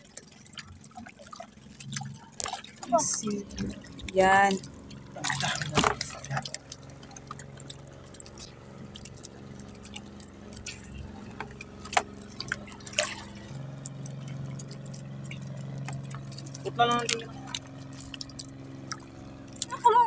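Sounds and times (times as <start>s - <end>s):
low motor hum: 0.0s - 20.0s
water splashing and dripping: 0.0s - 20.0s.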